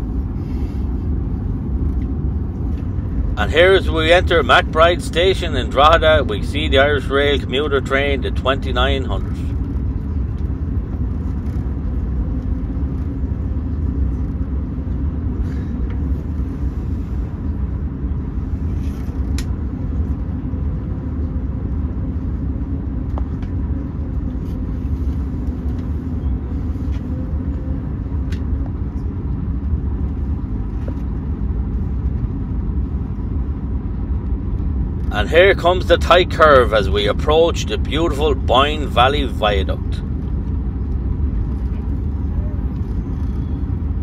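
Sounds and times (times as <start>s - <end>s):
moving train rumble: 0.0s - 44.0s.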